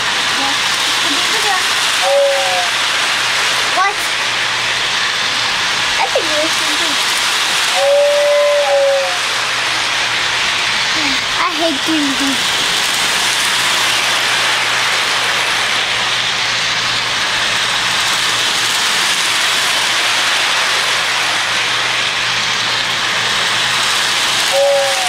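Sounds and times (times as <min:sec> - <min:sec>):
steady low hum: 0:00.0 - 0:25.0
toy train motor whirring: 0:00.0 - 0:25.0.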